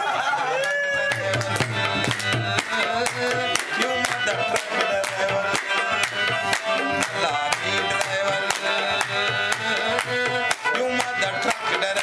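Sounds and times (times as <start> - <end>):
instrumental melody: 1.0 - 12.0.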